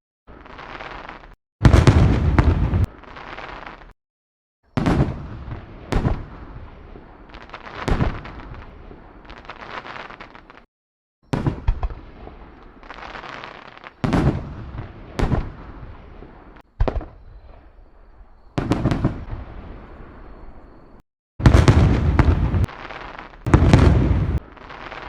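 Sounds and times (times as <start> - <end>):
fireworks bangs with hissing: 0.3 - 4.0, 4.7 - 10.7, 11.3 - 17.8, 18.6 - 20.4, 21.4 - 25.0.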